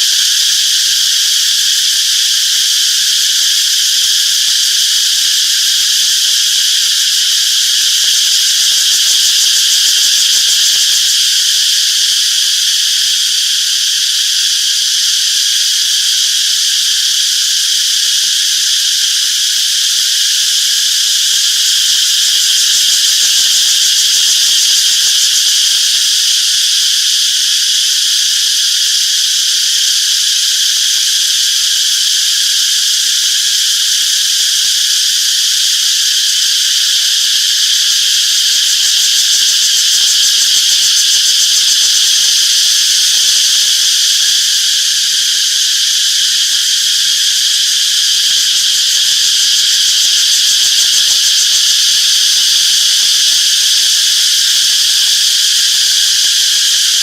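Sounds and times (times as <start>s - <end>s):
cicadas chirping: 0.0s - 57.0s.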